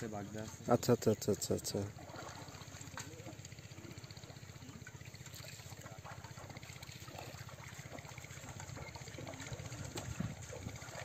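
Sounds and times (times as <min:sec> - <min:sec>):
steady low hum: 0:00.0 - 0:11.0
water splashing and sloshing: 0:00.0 - 0:11.0.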